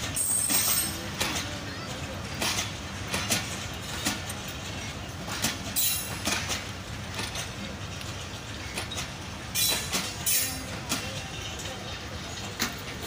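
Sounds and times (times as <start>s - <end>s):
train wheels rumbling: 0.0s - 13.0s
wheels clacking over rail joints: 0.0s - 13.0s.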